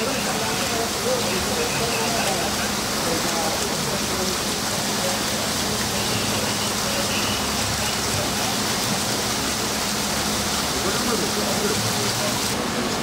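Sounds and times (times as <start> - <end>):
floodwater rushing and splashing: 0.0 - 13.0.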